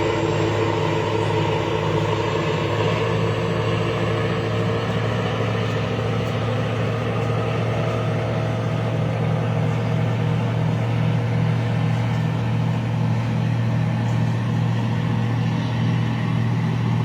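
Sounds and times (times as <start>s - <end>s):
ship engine humming: 0.0s - 17.0s.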